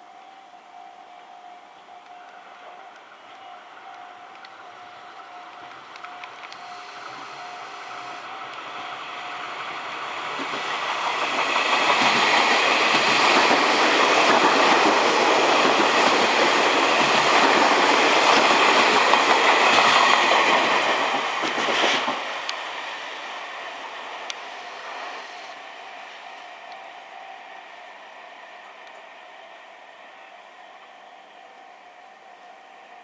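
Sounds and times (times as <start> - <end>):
electric train passing: 0.0 - 33.0
wheel and rail rumble: 1.8 - 33.0.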